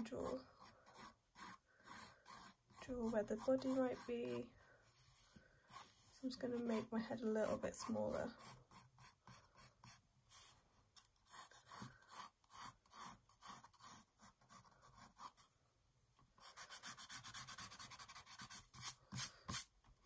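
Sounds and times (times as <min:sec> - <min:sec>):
pencil sketching on paper: 0:00.0 - 0:10.6, 0:11.2 - 0:15.6, 0:16.2 - 0:20.0.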